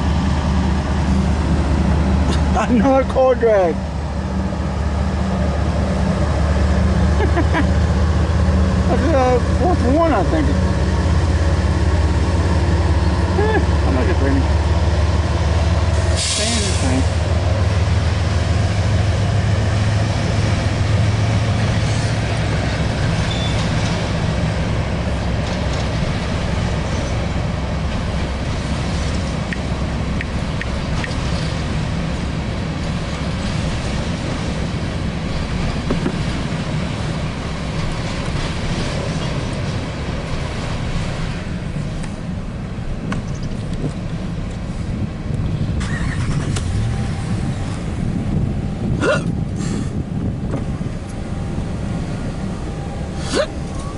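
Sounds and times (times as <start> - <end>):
freight train rumbling on rails: 0.0 - 53.9.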